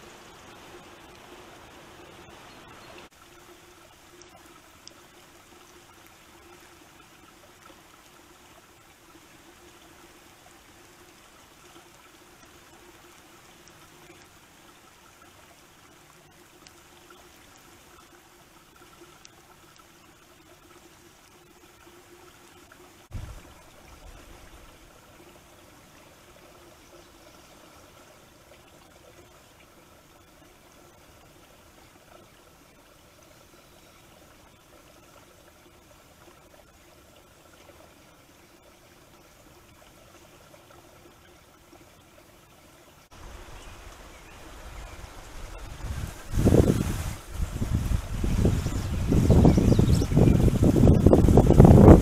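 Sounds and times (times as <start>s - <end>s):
wind and rain hiss: 0.0s - 40.0s, 42.9s - 52.0s.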